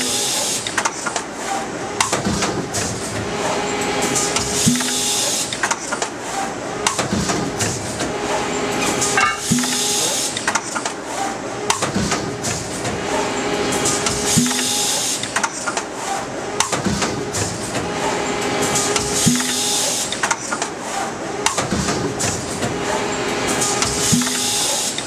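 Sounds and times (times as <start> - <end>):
machine hum and hiss: 0.0 - 25.0.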